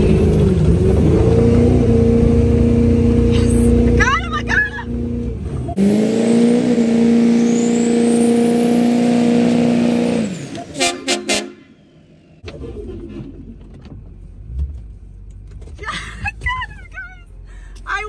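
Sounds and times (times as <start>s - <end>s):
low engine hum: 0.0s - 10.7s, 11.5s - 18.0s
diesel engine revving: 0.0s - 16.6s.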